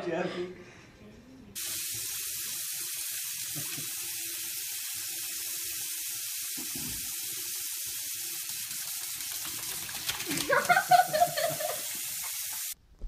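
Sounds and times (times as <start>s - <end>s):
tap water running into sink: 1.6s - 12.8s.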